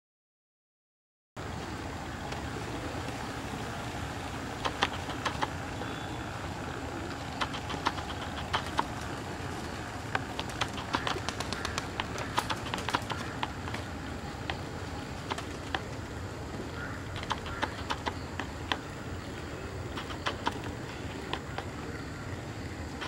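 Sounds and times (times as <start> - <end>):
low background noise: 1.4 - 23.0
small birds chirping: 1.5 - 23.0.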